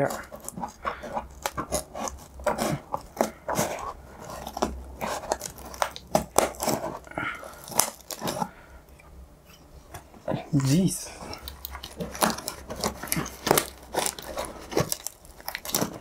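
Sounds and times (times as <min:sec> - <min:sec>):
scissors snipping cardboard: 0:00.0 - 0:08.5, 0:11.4 - 0:16.0.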